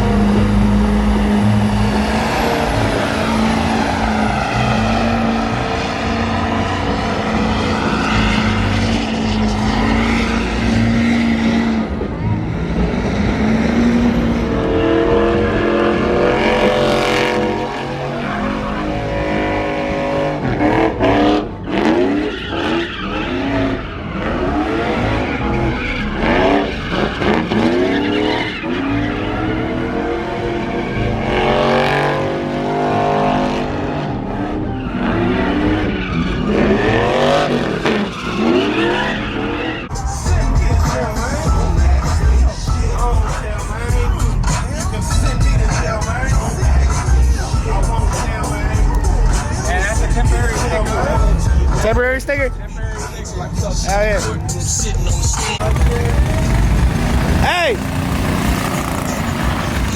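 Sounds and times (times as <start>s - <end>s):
engine revving: 0.0s - 52.0s, 53.2s - 59.9s
tires spinning: 0.0s - 59.9s.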